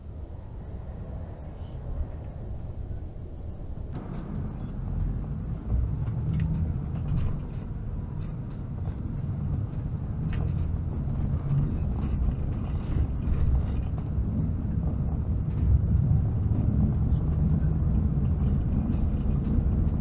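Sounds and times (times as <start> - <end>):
heavy vehicle engine rumble: 3.8 - 20.0
knocks and rattles: 4.0 - 20.0.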